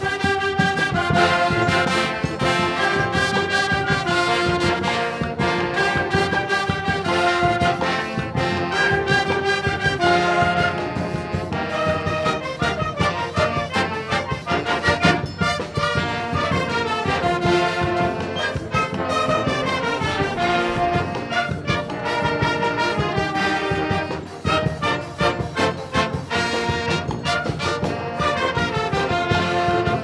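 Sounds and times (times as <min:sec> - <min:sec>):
brass and wind band playing: 0:00.0 - 0:30.0
quick percussion beat: 0:00.0 - 0:30.0.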